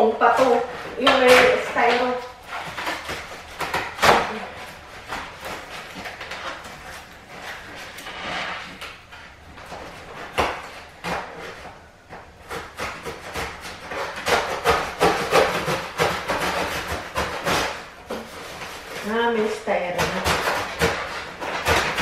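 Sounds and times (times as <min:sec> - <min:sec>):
cardboard scraping and tearing: 0:00.0 - 0:09.0, 0:09.7 - 0:22.0.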